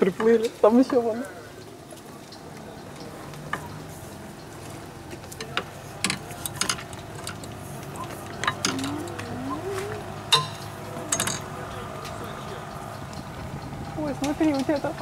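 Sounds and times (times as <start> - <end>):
steady low hum: 2.4 - 15.0.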